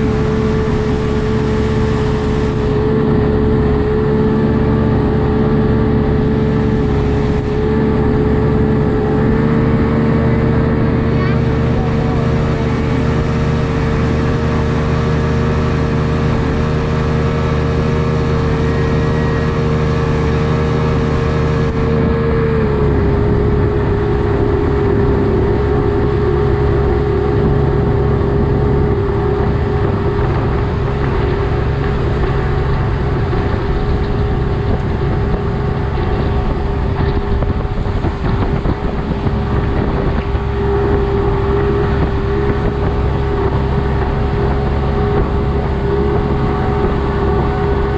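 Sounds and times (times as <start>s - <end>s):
outboard motor running: 0.0s - 47.9s.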